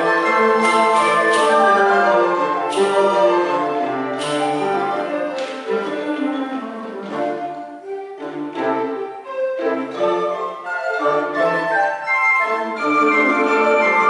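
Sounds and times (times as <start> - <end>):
recorder ensemble playing: 0.0 - 14.0.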